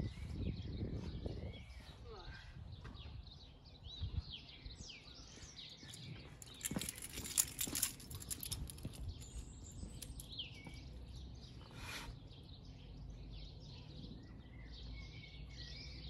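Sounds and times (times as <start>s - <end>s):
birds chirping: 0.8s - 16.0s.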